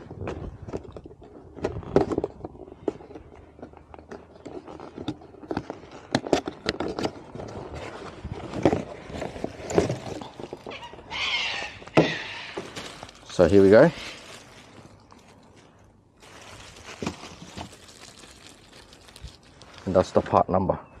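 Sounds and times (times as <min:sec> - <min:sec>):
handling filters and packaging: 0:00.0 - 0:20.5.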